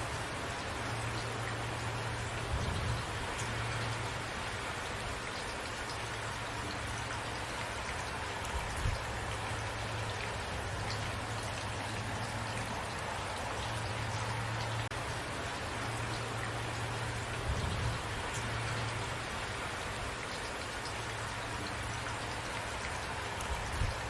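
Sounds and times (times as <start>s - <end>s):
raindrops ticking on a surface: 0.0s - 24.0s
steady rain hissing: 0.0s - 24.0s.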